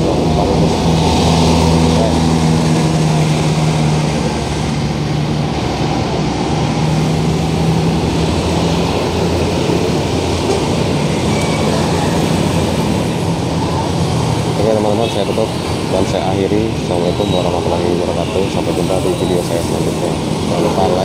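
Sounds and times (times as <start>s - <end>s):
traffic passing close by: 0.0s - 21.0s.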